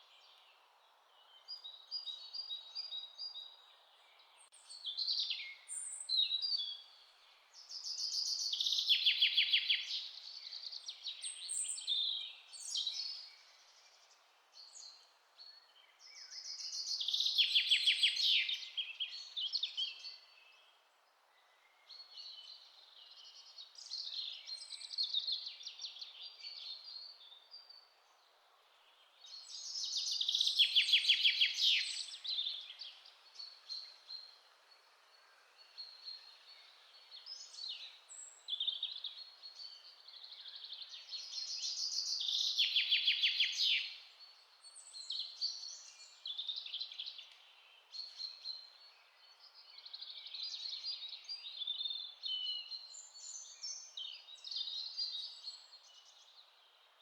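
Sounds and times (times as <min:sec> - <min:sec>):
faint background hiss: 0:00.0 - 0:57.0
songbirds chirping: 0:00.0 - 0:57.0.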